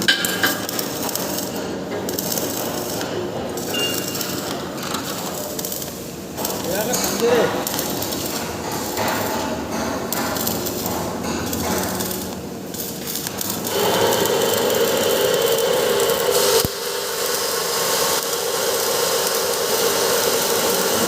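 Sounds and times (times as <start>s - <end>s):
welding arc crackling: 0.0s - 21.0s.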